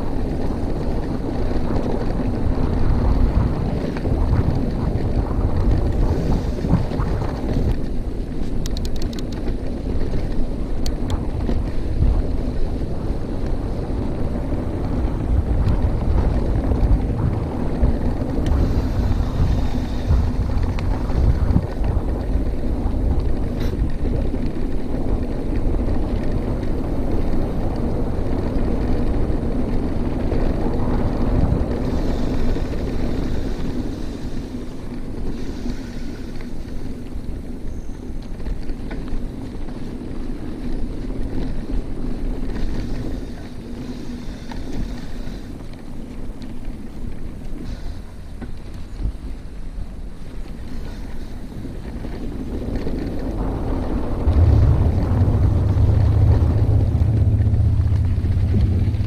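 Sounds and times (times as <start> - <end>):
bike tyres rumbling over dirt: 0.0 - 59.0
wind buffeting microphone: 0.0 - 59.0.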